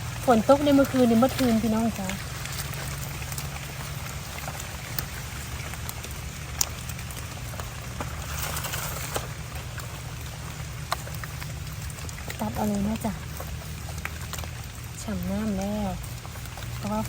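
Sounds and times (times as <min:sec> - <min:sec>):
rain pattering on leaves: 0:00.0 - 0:17.0
steady low rumble: 0:00.0 - 0:17.0.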